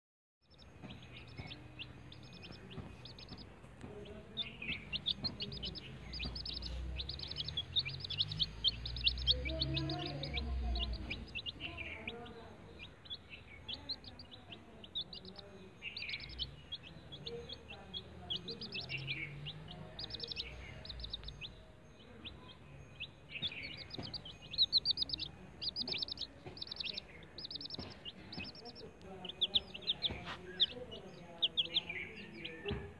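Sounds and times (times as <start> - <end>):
chicks peeping: 0.5 - 32.9.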